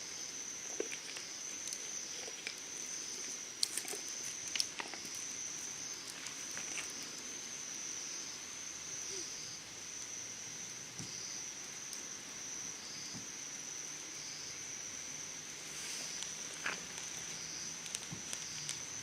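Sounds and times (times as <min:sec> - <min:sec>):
campfire crackles: 0:00.0 - 0:19.0
high-pitched insect trill: 0:00.0 - 0:19.0
soft pulsing insect call: 0:00.0 - 0:19.0.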